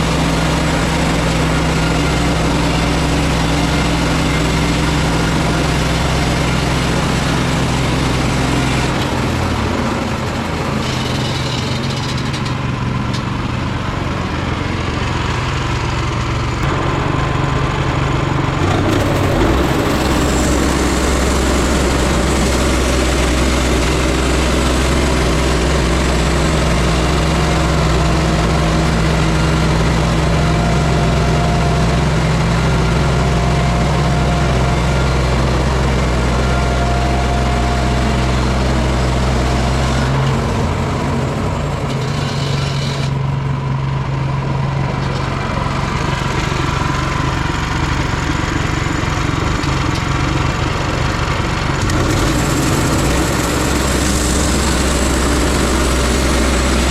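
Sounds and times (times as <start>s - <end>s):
sawmill engine milling log: 0.0s - 56.9s.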